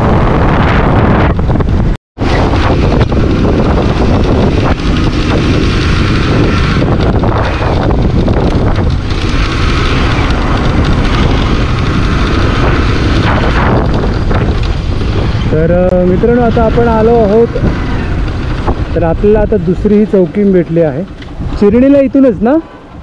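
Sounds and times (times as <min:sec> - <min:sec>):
motorcycle engine running: 0:00.0 - 0:22.2
road noise: 0:00.0 - 0:23.0
wind rush on microphone: 0:00.0 - 0:23.0.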